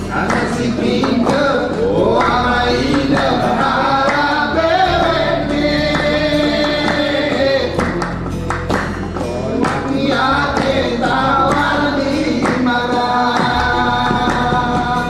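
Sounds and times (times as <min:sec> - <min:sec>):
men singing: 0:00.0 - 0:08.5, 0:09.1 - 0:15.0
hand clapping: 0:00.0 - 0:15.0.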